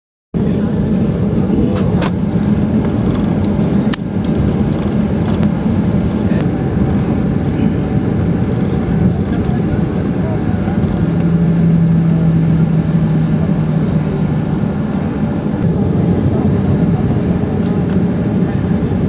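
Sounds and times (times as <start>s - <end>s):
airliner cabin engine hum: 0.4s - 19.0s.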